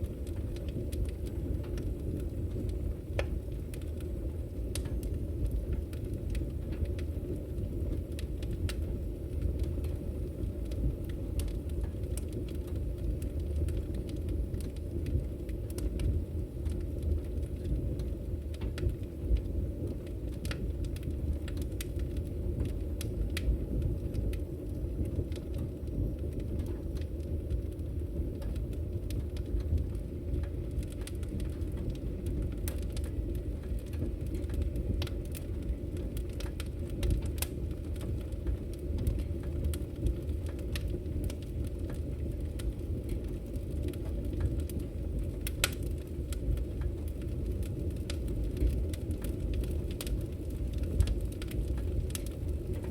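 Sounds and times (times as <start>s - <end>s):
firewood crackling: 0.0s - 52.9s
low rumble of flames: 0.0s - 52.9s.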